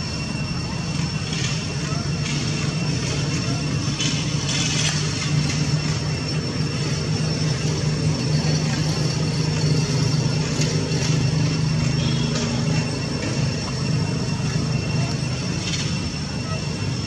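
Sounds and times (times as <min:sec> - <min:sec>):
high whine: 0:00.0 - 0:17.0
low motor drone: 0:00.0 - 0:17.0.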